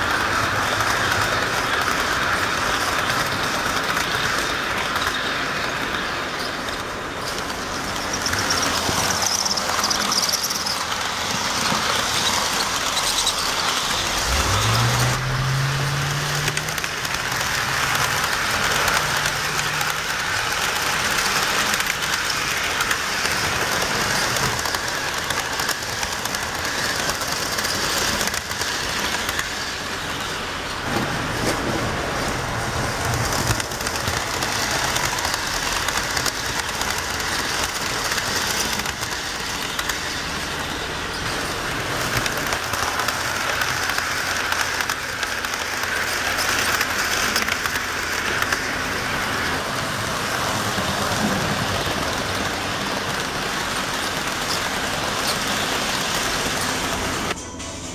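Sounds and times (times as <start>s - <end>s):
model train wheels clattering: 0.0s - 57.4s.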